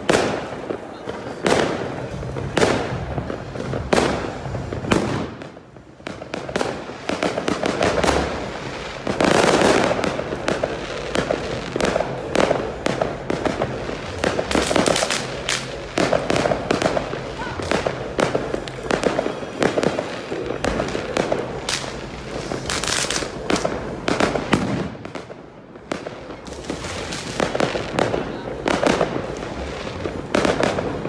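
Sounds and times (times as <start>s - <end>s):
fireworks bangs and cracks: 0.0s - 31.0s.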